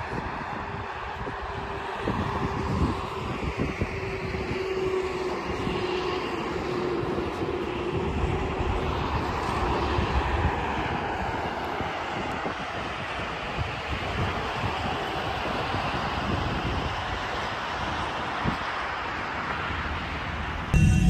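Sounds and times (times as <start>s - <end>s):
car road and wind noise: 0.0s - 21.0s.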